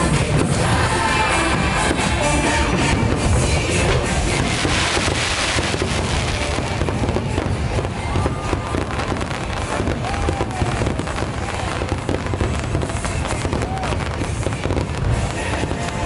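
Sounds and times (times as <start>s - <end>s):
fireworks bangs and crackling: 0.0s - 16.0s
music playing: 0.0s - 16.0s.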